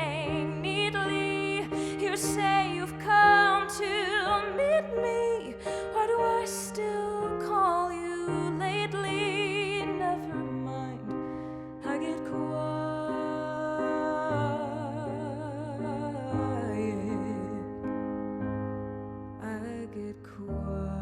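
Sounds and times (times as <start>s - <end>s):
woman singing wordless notes: 0.0s - 17.8s.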